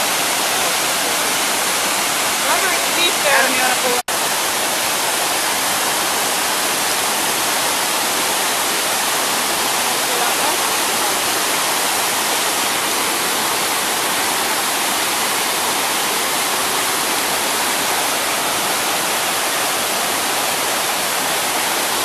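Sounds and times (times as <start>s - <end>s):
small waterfall rushing: 0.0s - 22.0s.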